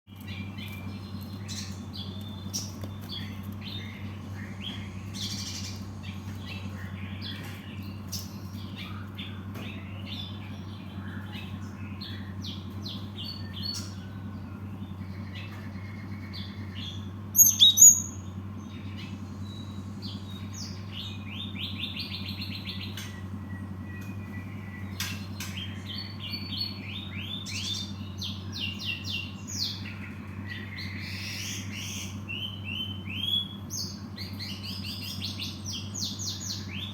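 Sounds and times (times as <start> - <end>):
steady low hum: 0.1 - 36.9
bird chirping and singing: 0.2 - 36.9.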